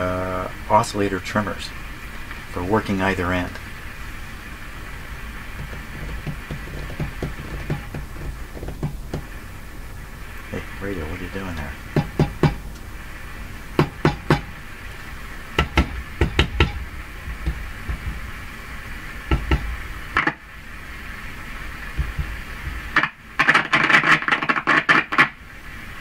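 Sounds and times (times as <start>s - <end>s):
radio static pops and crackles: 0.7s - 26.0s.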